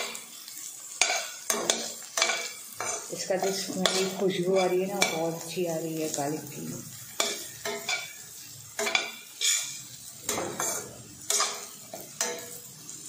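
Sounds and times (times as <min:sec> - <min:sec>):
light frying sizzle: 0:00.0 - 0:13.0
metal spatula scraping a pan: 0:00.0 - 0:13.0.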